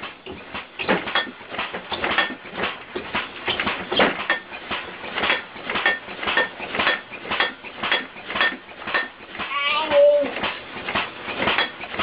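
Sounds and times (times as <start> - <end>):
rhythmic metallic clanking and banging: 0.0 - 12.0.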